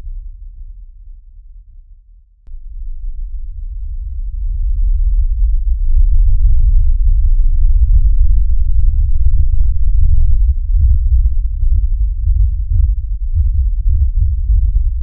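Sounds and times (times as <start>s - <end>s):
deep bass rumble: 0.0s - 15.0s.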